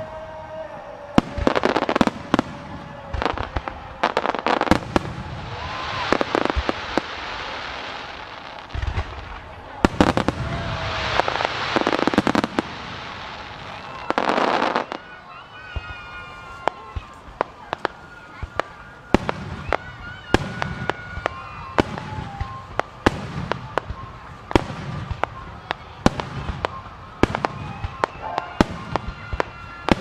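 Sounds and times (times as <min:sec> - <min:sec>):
fireworks bursting with bangs: 0:00.0 - 0:30.0
crackling sparks: 0:01.2 - 0:30.0.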